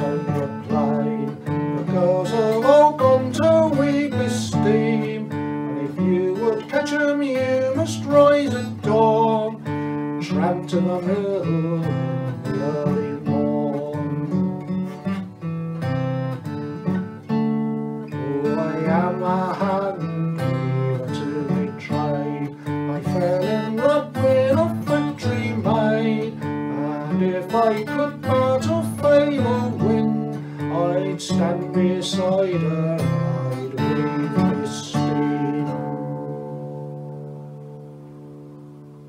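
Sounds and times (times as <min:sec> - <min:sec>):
man singing: 0:00.0 - 0:15.1, 0:16.2 - 0:37.0
acoustic guitar picking: 0:00.0 - 0:39.0.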